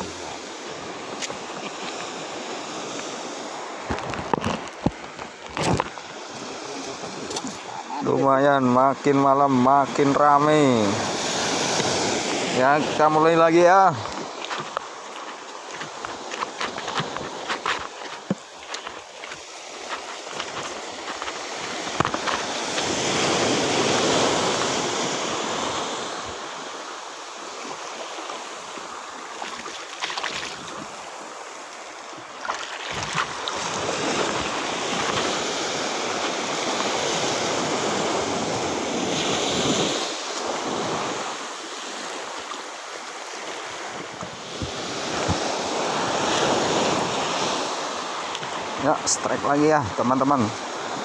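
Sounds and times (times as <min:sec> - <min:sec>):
sea waves washing onto shore: 0:00.0 - 0:51.0.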